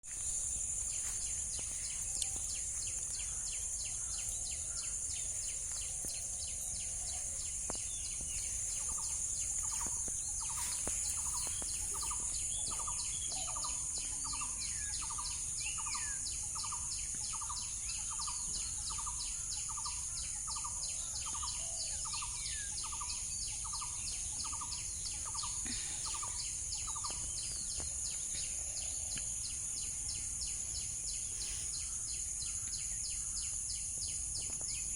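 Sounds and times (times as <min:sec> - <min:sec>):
birds calling: 0:00.1 - 0:34.9.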